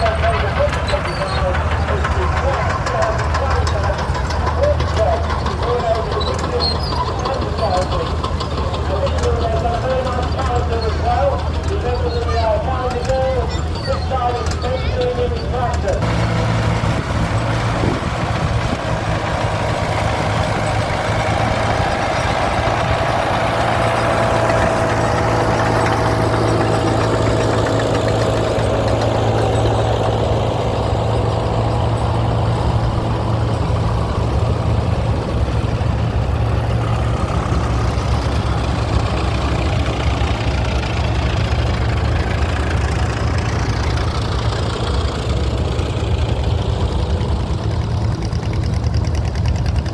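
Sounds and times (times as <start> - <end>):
tractor engine idling: 0.0 - 49.9.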